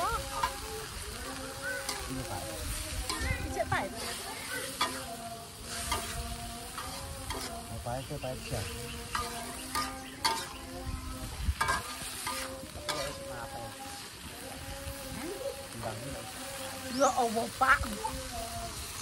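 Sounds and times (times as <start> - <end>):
hot oil sizzling: 0.0 - 19.0
metal spatula scraping wok: 0.2 - 15.8.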